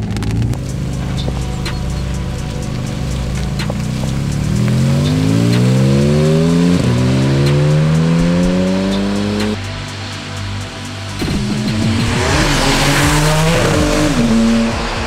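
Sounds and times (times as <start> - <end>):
car engine accelerating hard: 0.0 - 10.2, 11.0 - 15.0.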